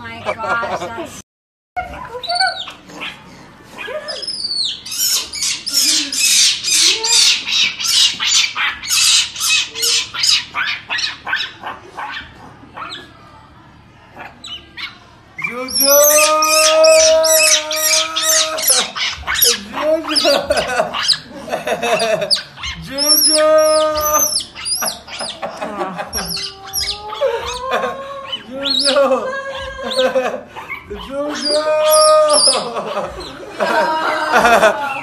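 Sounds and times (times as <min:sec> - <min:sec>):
monkey crying: 0:02.1 - 0:03.2, 0:03.8 - 0:13.2, 0:14.2 - 0:35.0
monkey squeaking: 0:02.1 - 0:03.2, 0:03.8 - 0:12.2, 0:14.4 - 0:33.5.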